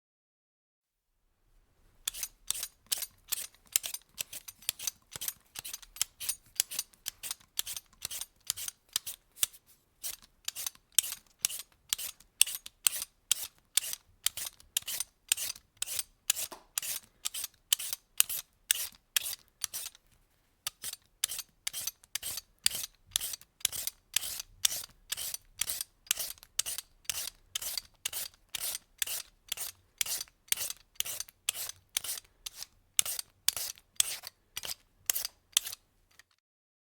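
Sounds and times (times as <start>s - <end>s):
vegetable peeler scraping: 2.0s - 20.1s, 20.7s - 36.4s.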